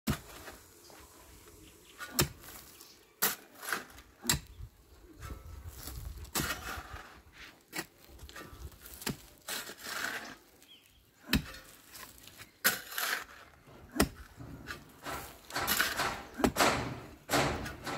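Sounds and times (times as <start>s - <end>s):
digging tools striking stony earth: 0.1s - 0.7s, 2.0s - 17.9s
loosened soil crumbling: 0.1s - 17.9s.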